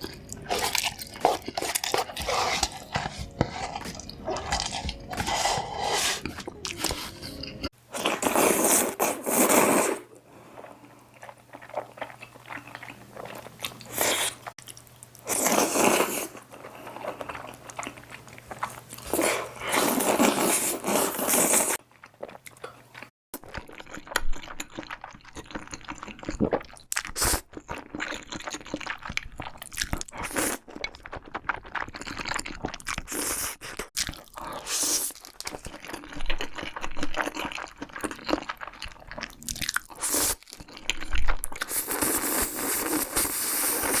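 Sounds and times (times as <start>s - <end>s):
person crunching food: 0.0s - 9.8s, 11.2s - 43.5s.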